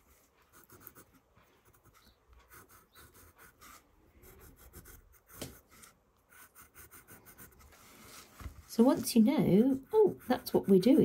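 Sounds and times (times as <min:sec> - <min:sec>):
pencil scratching on paper: 0:00.0 - 0:08.2, 0:08.8 - 0:11.0.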